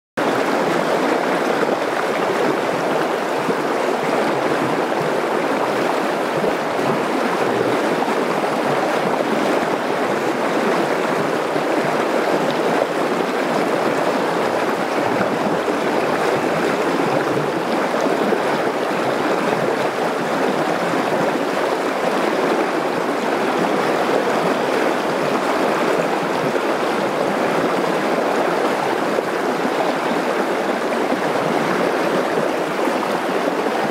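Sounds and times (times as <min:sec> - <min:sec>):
river water rushing over stones: 0:00.2 - 0:33.9.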